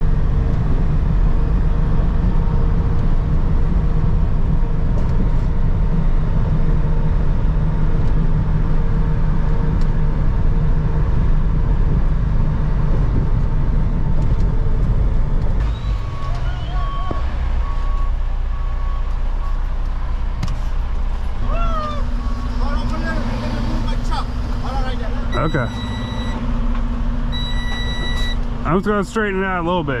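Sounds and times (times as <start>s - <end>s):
truck diesel engine droning: 0.0s - 30.0s.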